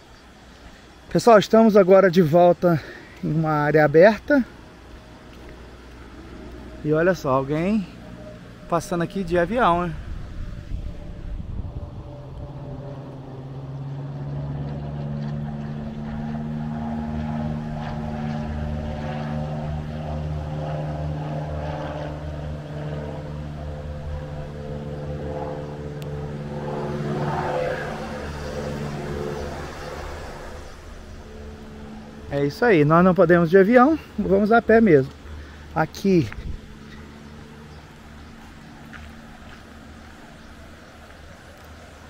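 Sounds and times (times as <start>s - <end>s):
small airplane engine drone: 0.0s - 42.0s.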